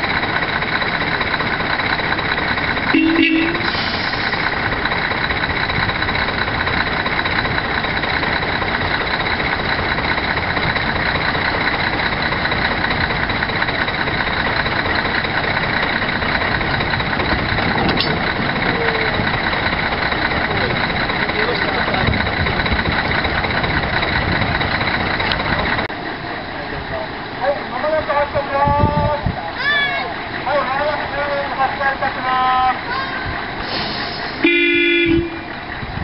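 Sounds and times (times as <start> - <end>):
diesel railbus engine running: 0.0 - 36.0.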